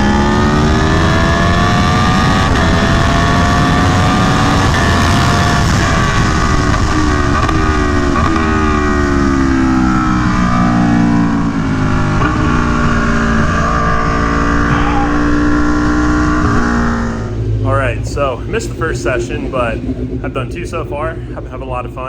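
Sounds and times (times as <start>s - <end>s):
motorcycle engine revving hard: 0.0s - 21.8s
steady low rumble: 0.0s - 22.0s.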